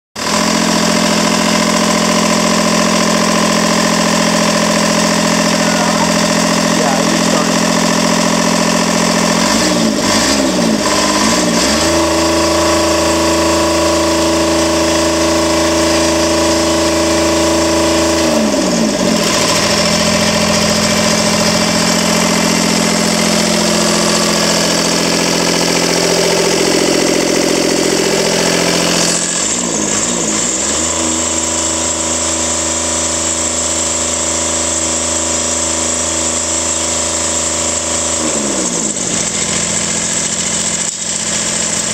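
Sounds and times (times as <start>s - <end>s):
diesel engine revving: 0.2s - 41.9s.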